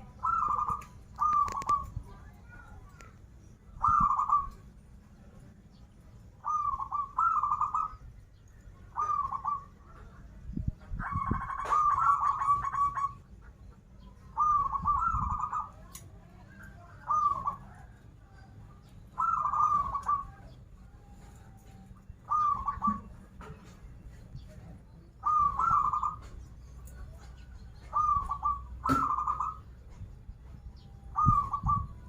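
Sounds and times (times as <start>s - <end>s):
dove cooing: 0.0s - 3.0s, 3.7s - 4.7s, 6.4s - 8.0s, 8.9s - 32.0s.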